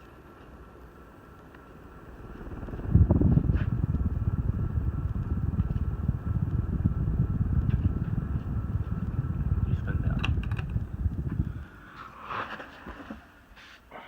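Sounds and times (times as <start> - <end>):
fan wind buffeting microphone: 0.0 - 13.8.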